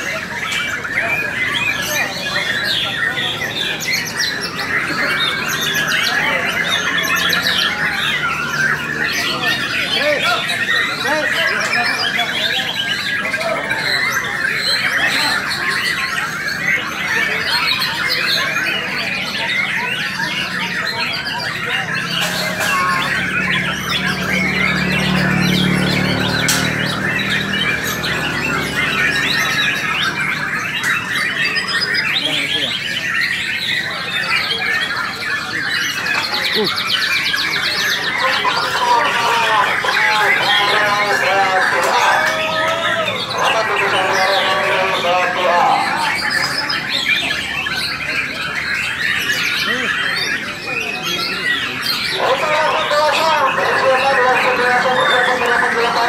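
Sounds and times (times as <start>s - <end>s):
many birds singing: 0.0s - 56.0s.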